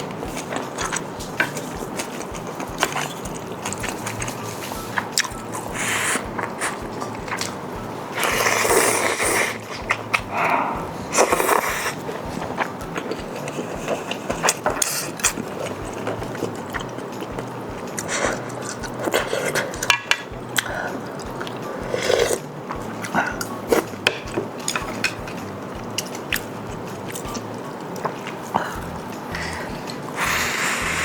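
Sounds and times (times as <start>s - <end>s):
mouth clicks and smacks: 0.0s - 31.0s
noisy slurps: 0.0s - 31.0s
person chewing: 0.0s - 31.0s.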